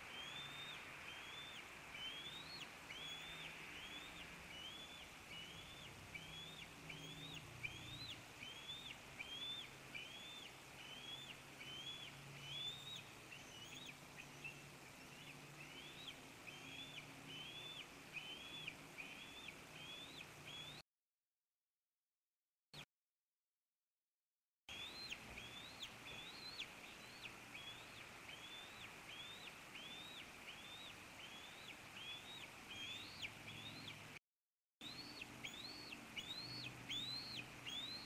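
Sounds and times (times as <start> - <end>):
eaglet peeping: 0.0 - 20.8, 24.7 - 34.1, 34.8 - 38.0.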